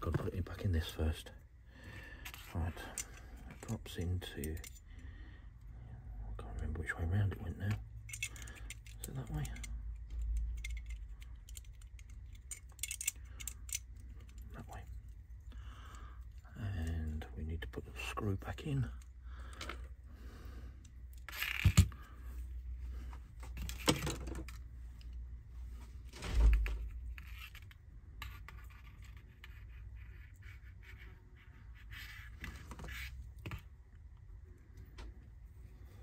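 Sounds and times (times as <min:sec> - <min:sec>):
small clicks and scrapes of handling: 0:02.1 - 0:05.0, 0:07.5 - 0:20.0, 0:20.8 - 0:25.2, 0:26.1 - 0:35.3.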